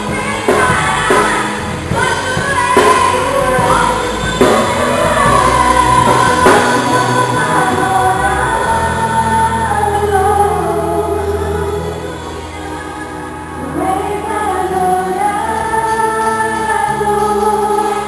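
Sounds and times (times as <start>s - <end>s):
band instruments playing: 0.0s - 18.0s
voices singing together: 0.0s - 18.0s.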